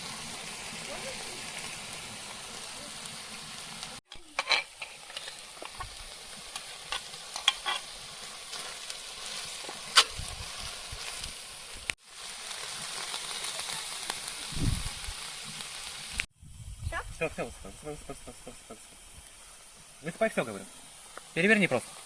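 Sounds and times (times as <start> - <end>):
vegetables sizzling in a pot: 0.0 - 22.0.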